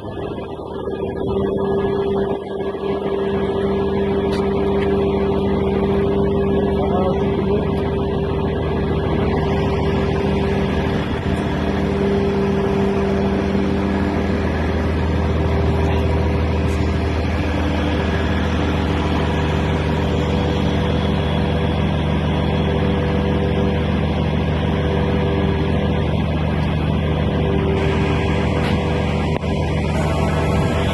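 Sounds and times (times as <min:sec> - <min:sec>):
crane diesel engine running: 0:00.0 - 0:30.9.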